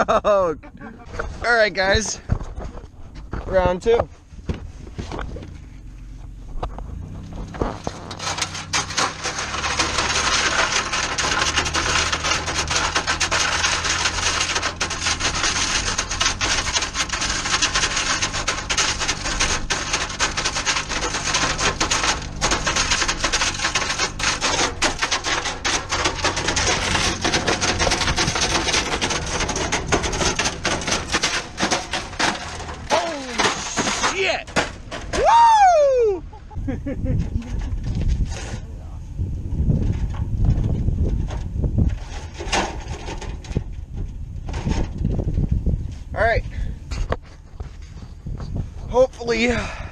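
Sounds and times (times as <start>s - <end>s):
van engine running low: 0.0s - 49.9s
microwave scraping over gravel: 1.0s - 35.3s, 36.2s - 49.9s
tyres crunching on gravel: 1.0s - 49.9s.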